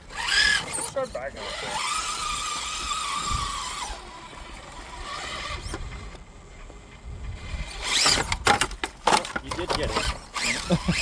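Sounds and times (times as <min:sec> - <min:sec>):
toy truck motor whining: 0:00.0 - 0:06.2, 0:07.4 - 0:08.8, 0:09.6 - 0:11.0.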